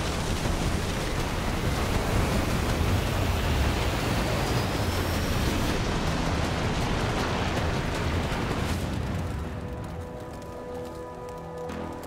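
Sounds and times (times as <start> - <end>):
snow avalanche rushing: 0.0 - 10.5.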